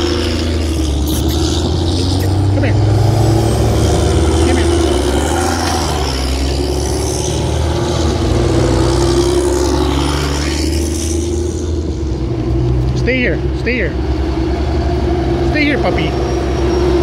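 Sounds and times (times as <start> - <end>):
tyres on gravel: 0.0 - 13.8
diesel engines running: 0.0 - 17.0.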